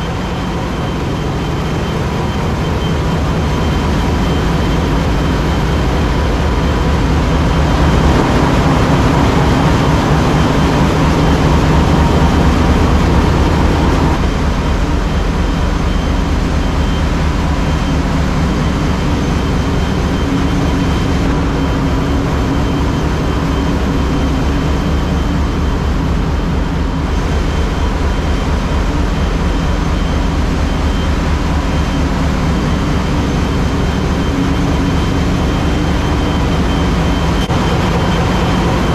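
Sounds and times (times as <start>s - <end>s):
high machinery whine: 0.0s - 38.9s
marine diesel engine rumble: 0.0s - 38.9s.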